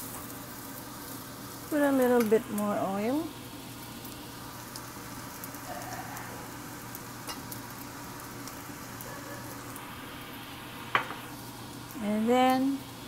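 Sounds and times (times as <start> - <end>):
rice sizzling in hot oil: 0.0 - 13.0
faint crackles: 0.1 - 12.9.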